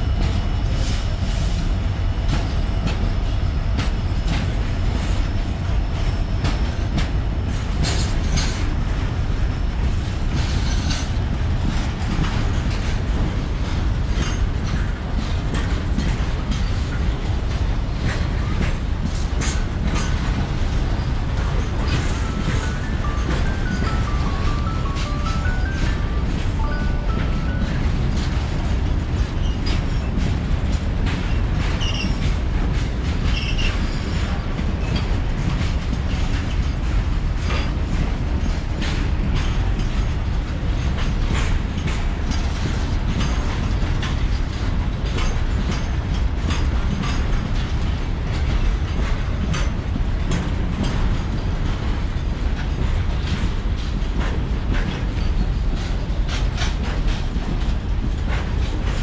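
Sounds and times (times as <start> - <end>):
freight train rumbling past: 0.0 - 59.0
wheels clicking over rail joints: 9.8 - 59.0.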